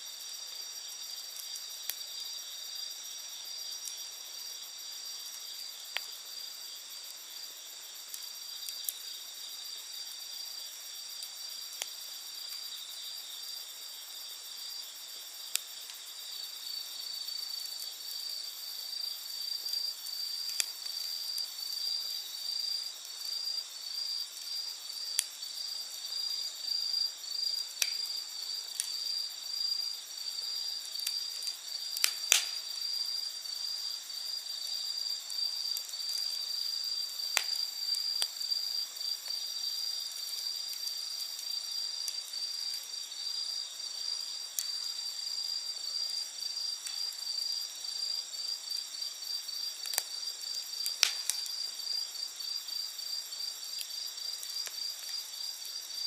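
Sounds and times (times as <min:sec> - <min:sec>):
night insects chorus: 0:00.0 - 0:56.0
campfire pops and crackles: 0:00.2 - 0:56.0.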